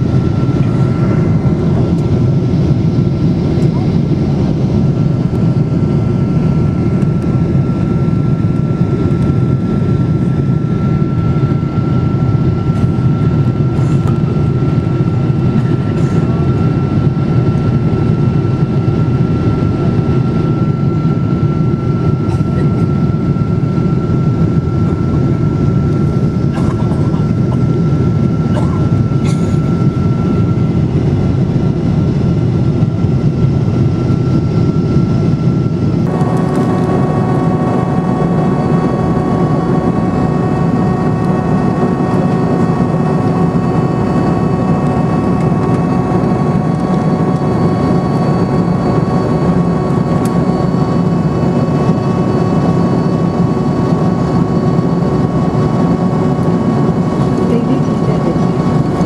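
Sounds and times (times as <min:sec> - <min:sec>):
jet engine roar in cabin: 0:00.0 - 0:59.0
thin steady whine: 0:00.0 - 0:59.0.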